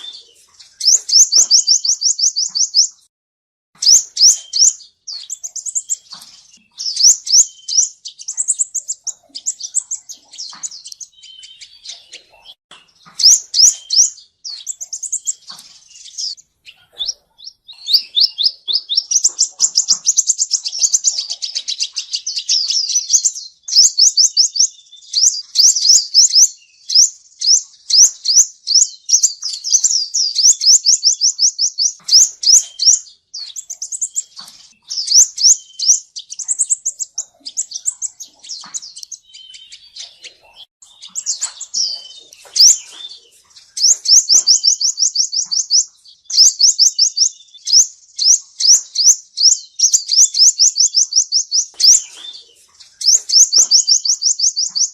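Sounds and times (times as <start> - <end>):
bird singing high fast trills: 0.0 - 3.0, 3.8 - 54.9.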